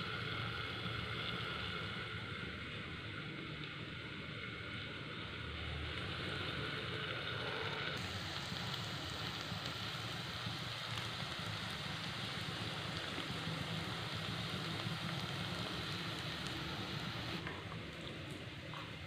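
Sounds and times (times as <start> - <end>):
vegetables sizzling in hot oil: 0.0 - 2.7, 3.8 - 17.7.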